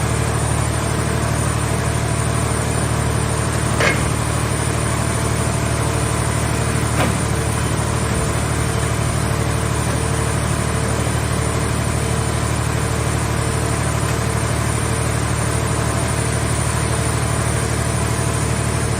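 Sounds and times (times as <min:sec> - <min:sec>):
baler machine hum: 0:00.0 - 0:18.9.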